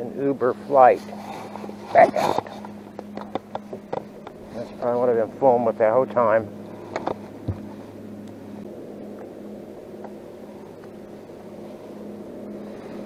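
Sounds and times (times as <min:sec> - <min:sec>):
small electric motor humming: 0:00.0 - 0:13.0.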